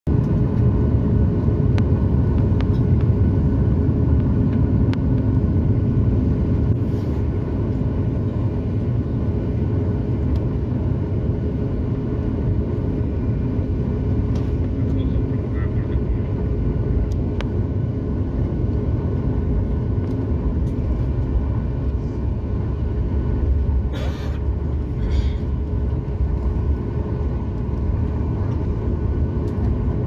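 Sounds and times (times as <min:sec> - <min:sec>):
jet engine deep rumble: 0:00.1 - 0:30.0.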